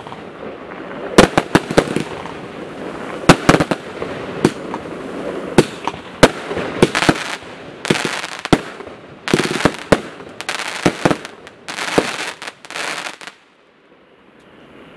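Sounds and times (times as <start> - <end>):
fireworks bangs: 0.0 - 13.4
fireworks hissing crackle: 0.0 - 13.4.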